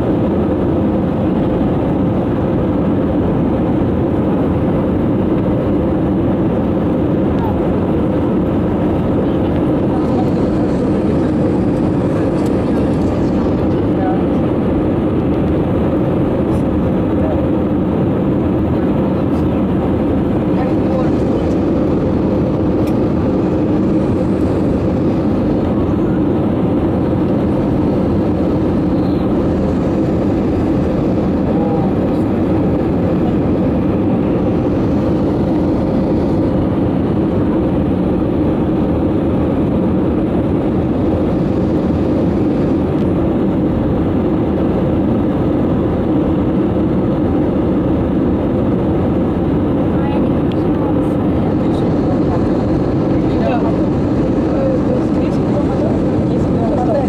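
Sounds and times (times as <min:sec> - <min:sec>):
airplane cabin engine drone: 0:00.0 - 0:57.0.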